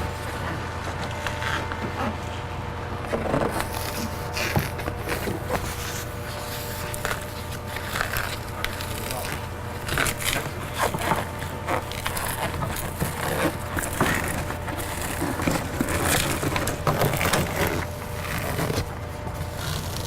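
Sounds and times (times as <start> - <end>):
plastic sheet peeling crackling: 3.5 - 20.0.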